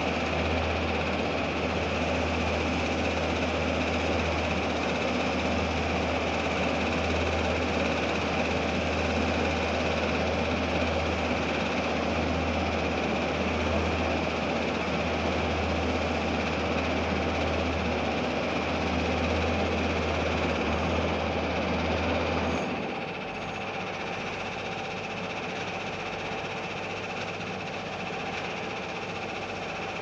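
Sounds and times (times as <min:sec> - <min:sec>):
heavy machinery droning: 0:00.0 - 0:30.0.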